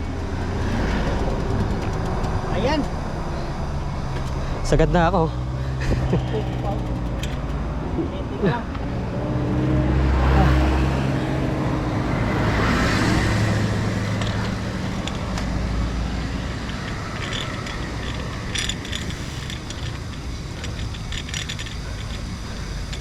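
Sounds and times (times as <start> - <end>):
vehicle passing on road: 0.0 - 23.0.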